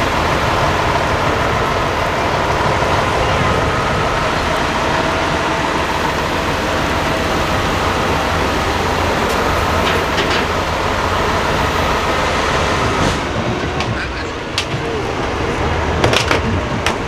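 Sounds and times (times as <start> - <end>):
diesel truck engine under load: 0.0 - 17.0.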